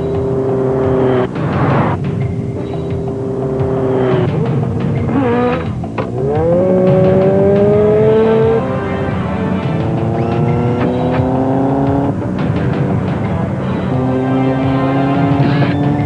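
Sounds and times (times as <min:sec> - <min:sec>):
car engines running hard: 0:00.0 - 0:16.0.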